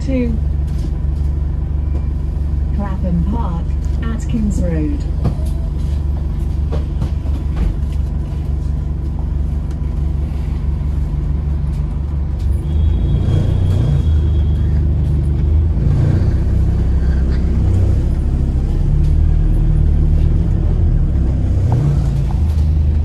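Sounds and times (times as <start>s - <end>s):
bus drivetrain hum: 0.0s - 23.0s
road noise: 0.0s - 23.0s.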